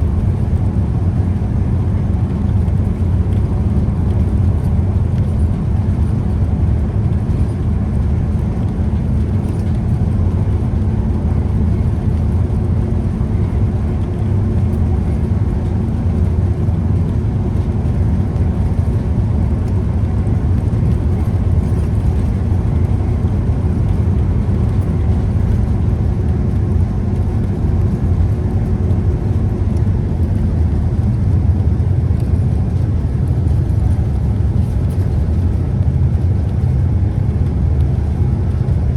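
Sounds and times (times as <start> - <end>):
bus diesel engine and road rumble: 0.0 - 38.9.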